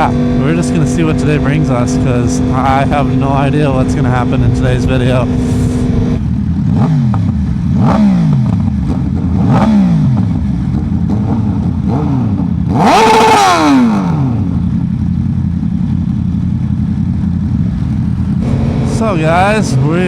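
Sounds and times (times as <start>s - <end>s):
motorcycle engine revving: 0.0s - 20.0s
wind and road rumble: 0.0s - 20.0s.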